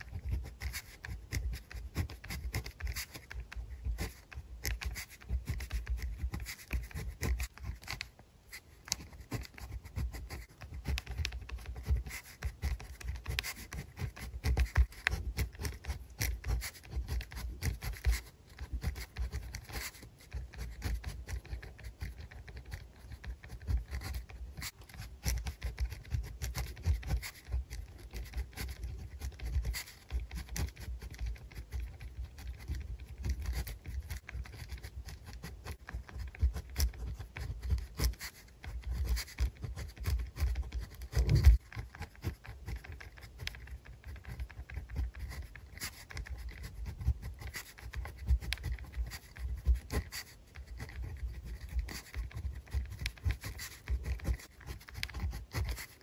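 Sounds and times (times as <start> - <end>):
pen scratching on paper: 0.0 - 56.0.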